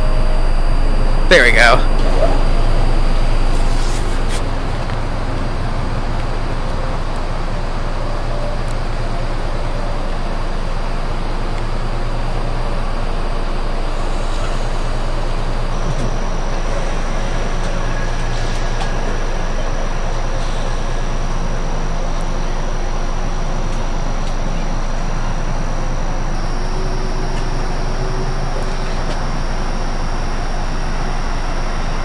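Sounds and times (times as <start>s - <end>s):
higher whine: 0.0s - 32.0s
thin high whine: 0.0s - 32.0s.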